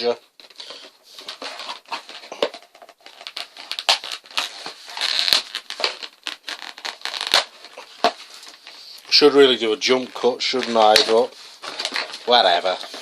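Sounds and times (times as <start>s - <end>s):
toy packaging crinkling: 0.4s - 13.0s.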